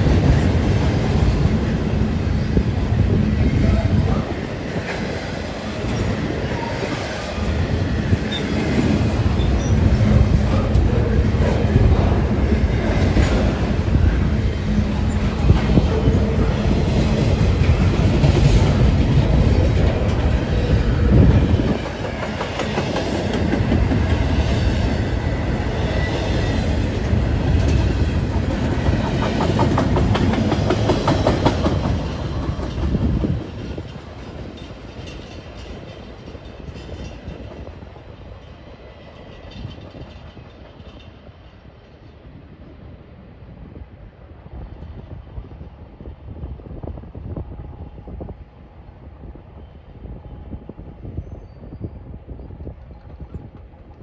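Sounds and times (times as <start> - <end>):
freight train wheels rumbling on rail: 0.0 - 54.0.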